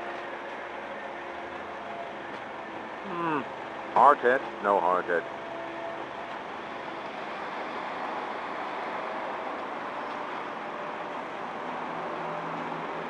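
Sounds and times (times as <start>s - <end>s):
construction machinery drone: 0.0s - 13.0s.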